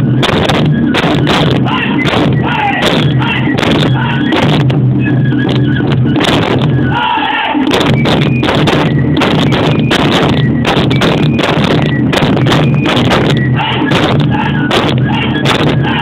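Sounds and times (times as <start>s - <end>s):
taiko drums beating fast: 0.0s - 7.0s, 7.7s - 16.0s.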